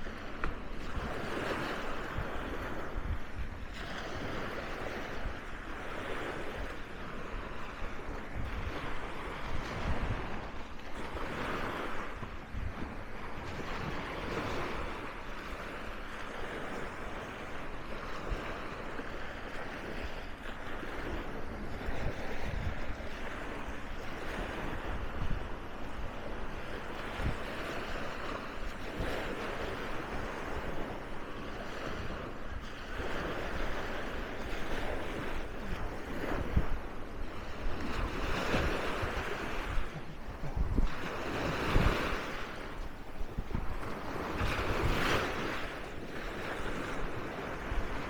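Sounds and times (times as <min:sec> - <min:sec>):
sea waves washing onto beach: 0:00.0 - 0:48.0
wind rumbling on microphone: 0:00.0 - 0:48.0.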